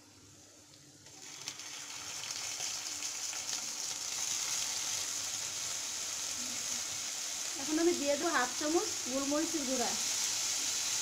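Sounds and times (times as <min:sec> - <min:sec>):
chicken sizzling in hot oil: 0:01.0 - 0:11.0.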